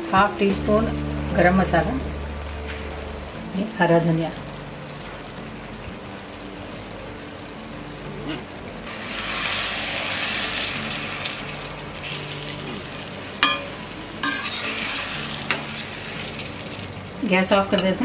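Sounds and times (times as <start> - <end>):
gravy sizzling in a pan: 0.5 - 18.0.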